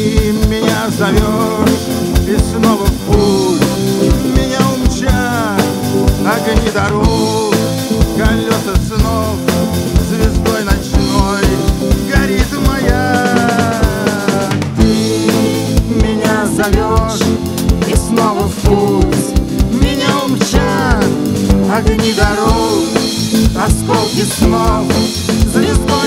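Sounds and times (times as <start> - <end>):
drum kit beat: 0.0 - 26.0
electric guitar: 0.0 - 26.0
keyboards: 0.0 - 26.0
man singing: 0.0 - 26.0.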